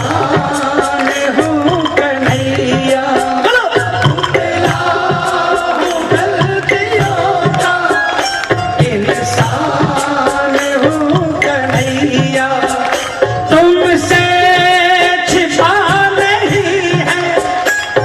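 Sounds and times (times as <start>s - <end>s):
devotional band melody: 0.0s - 18.0s
hand drum rhythm: 0.0s - 18.0s.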